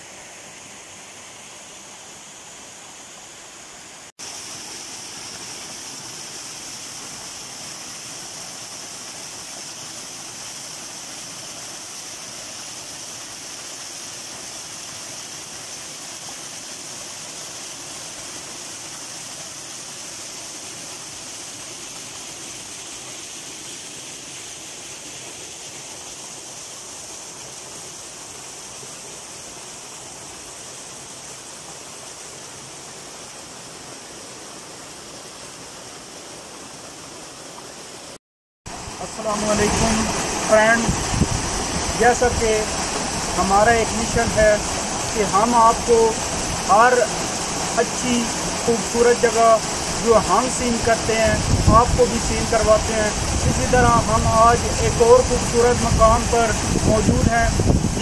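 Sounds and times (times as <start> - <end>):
waterfall splashing over rocks: 0.0 - 58.0.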